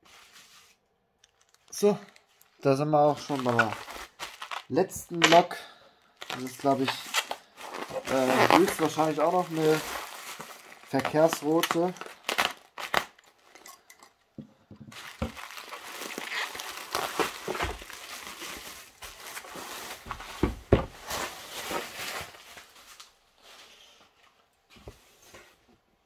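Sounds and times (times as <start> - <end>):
bubble wrap crinkling: 0.1 - 13.6, 14.9 - 24.2.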